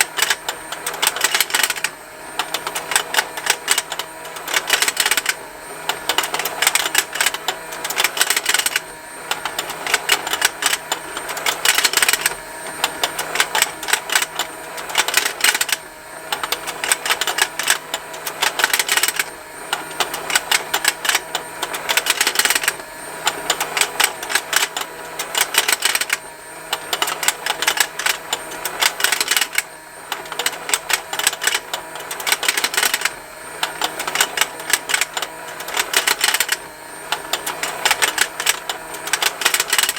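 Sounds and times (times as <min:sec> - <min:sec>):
toy motor fast ticking: 0:00.0 - 0:39.9.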